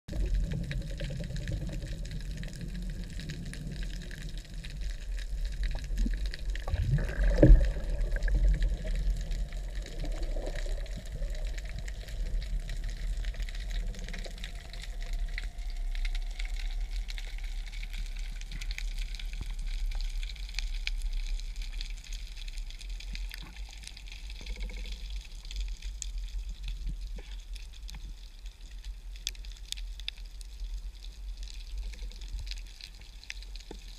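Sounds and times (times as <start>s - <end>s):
faint crackling: 0.1s - 33.9s
low underwater rumble: 0.1s - 33.9s.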